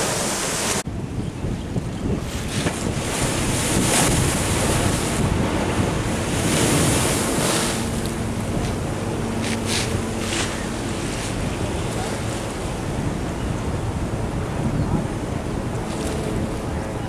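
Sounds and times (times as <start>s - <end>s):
surf rushing: 0.0s - 0.8s, 2.1s - 17.0s
wind buffeting the microphone: 0.0s - 17.0s.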